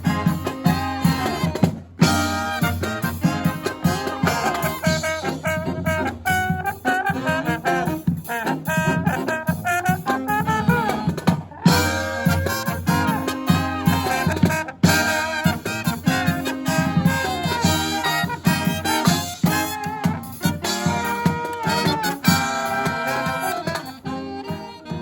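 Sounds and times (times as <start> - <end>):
brass band with drums playing swing: 0.0 - 25.0.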